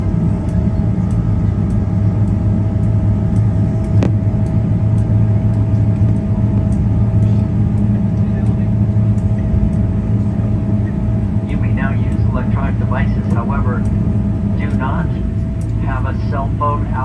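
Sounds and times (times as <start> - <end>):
faint steady whine: 0.0 - 17.0
jet engines droning at idle: 0.0 - 17.0.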